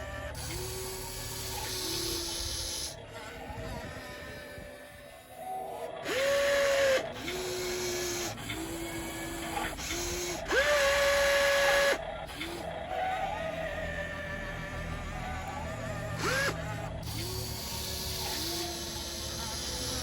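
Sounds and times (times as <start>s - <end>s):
toy excavator motors whining: 0.0s - 20.0s.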